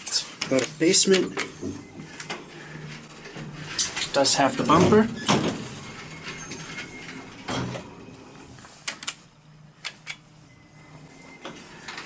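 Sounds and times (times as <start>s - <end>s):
elevator hum: 0.7s - 12.0s.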